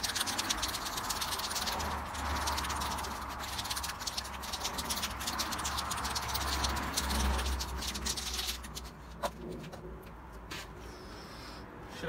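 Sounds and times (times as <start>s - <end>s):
spray can ball rattling: 0.0s - 9.7s.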